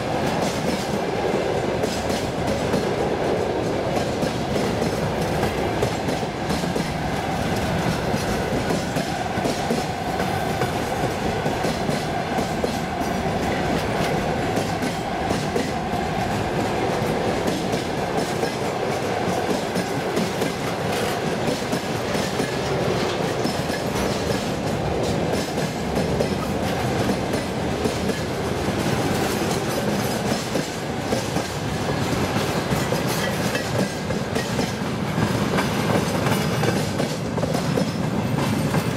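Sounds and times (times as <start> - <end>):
freight train wagons rolling: 1.8 - 38.9.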